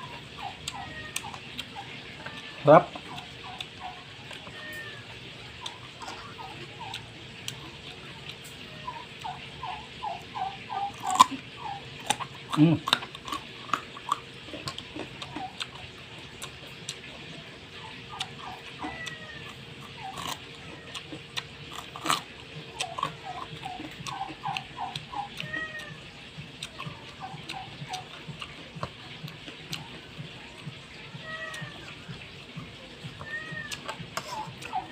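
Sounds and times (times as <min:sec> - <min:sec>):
animal high-pitched calls: 0:00.0 - 0:34.9
carrot crunching: 0:00.0 - 0:34.9.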